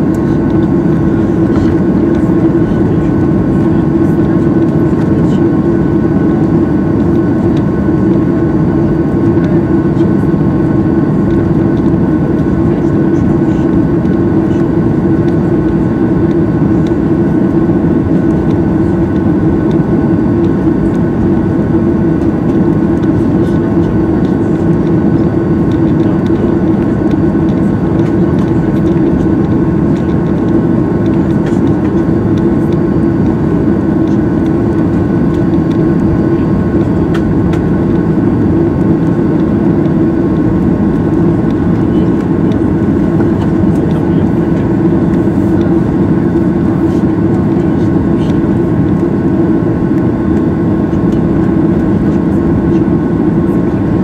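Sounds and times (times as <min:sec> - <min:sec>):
aircraft cabin drone: 0:00.0 - 0:54.0
thin steady whine tones: 0:00.0 - 0:54.0.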